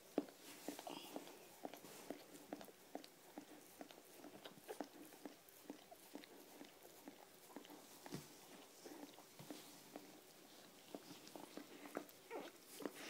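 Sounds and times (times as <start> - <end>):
dog licking wet clicks: 0.0 - 13.0.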